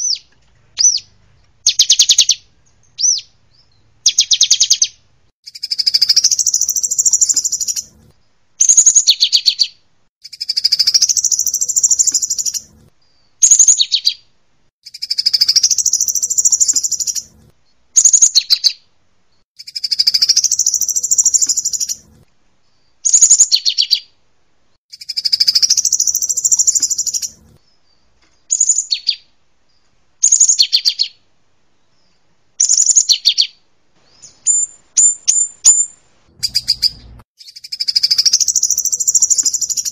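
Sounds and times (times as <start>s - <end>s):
canary song: 0.0s - 24.2s, 24.9s - 39.9s
sunbird song: 0.0s - 24.2s, 24.9s - 39.9s.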